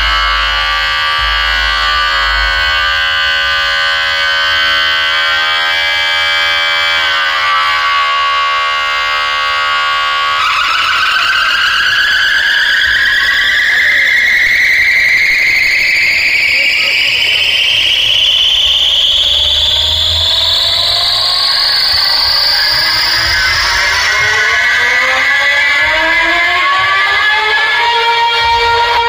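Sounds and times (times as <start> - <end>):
buzzy synthesizer drone: 0.0 - 29.0
rising sweeping synth tones: 0.0 - 29.0.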